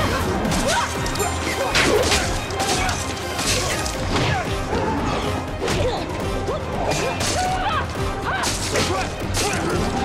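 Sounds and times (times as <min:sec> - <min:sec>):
film score music: 0:00.0 - 0:10.0.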